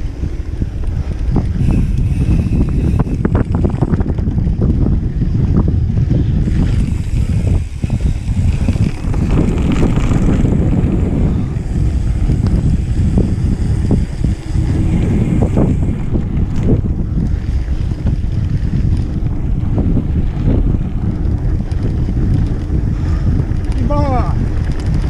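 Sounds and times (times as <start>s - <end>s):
bike knocking and rattling: 0.0s - 25.0s
wind buffeting microphone: 0.0s - 25.0s.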